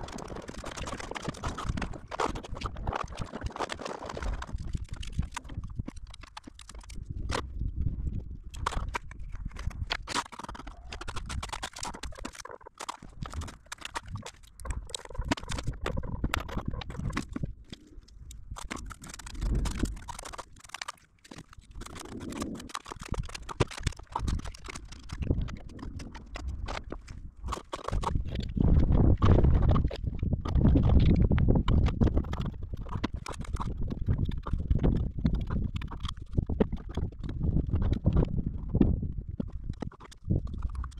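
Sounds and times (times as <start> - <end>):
wind rumble on microphone: 0.0 - 3.5, 4.1 - 10.1, 13.1 - 20.3, 21.6 - 40.9.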